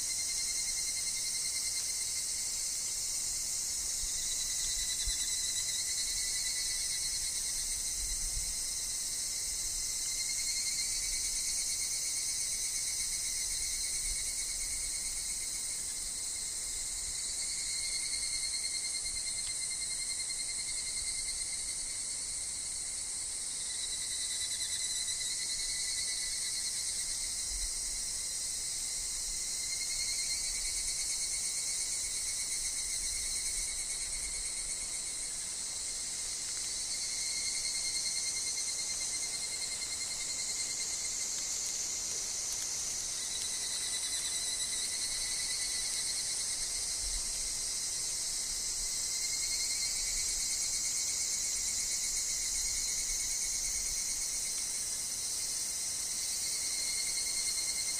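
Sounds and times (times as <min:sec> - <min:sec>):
lower insect trill: 0:00.0 - 0:57.9.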